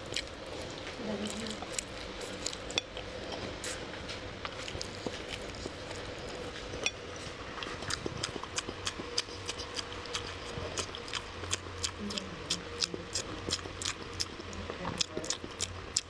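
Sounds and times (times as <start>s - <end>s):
wet chewing and lip-smacking: 0.0s - 7.0s, 7.6s - 16.0s
faint low hum: 0.0s - 16.0s.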